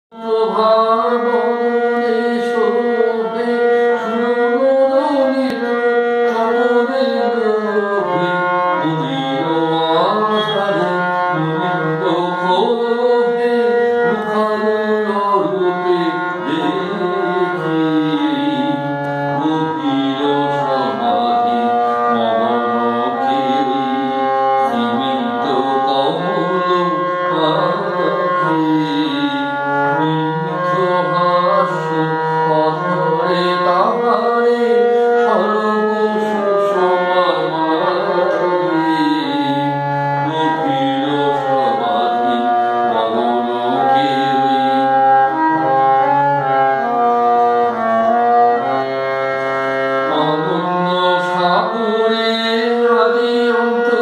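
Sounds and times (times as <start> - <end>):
harmonium playing: 0.1 - 54.0
man singing: 0.1 - 54.0.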